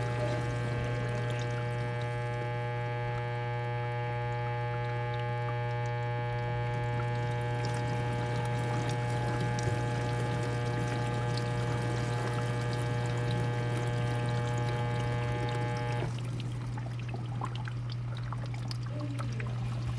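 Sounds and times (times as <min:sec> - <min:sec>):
water sloshing and spraying: 0:00.0 - 0:03.4, 0:04.7 - 0:19.9
dishwasher electrical buzz: 0:00.0 - 0:17.8.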